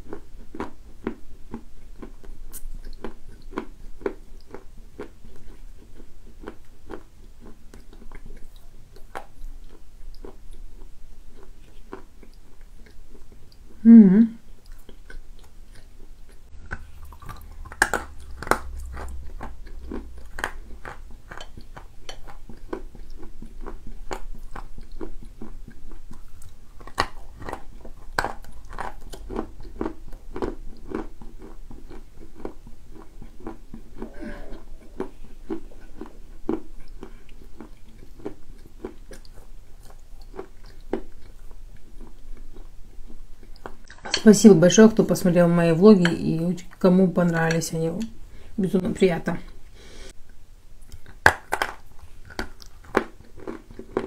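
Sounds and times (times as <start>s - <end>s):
chewing and crunching clay: 0.0s - 13.8s, 14.4s - 44.8s, 50.8s - 54.0s.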